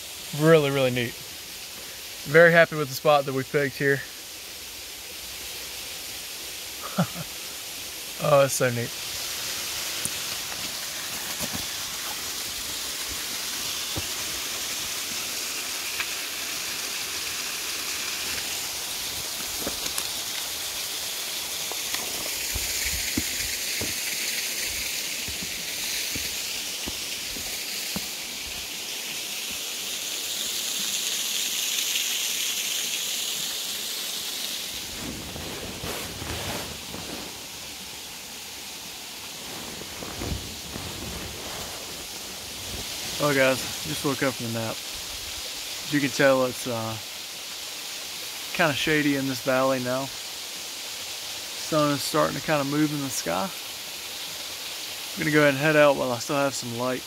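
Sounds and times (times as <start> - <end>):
waterfall rushing: 6.7 - 57.0.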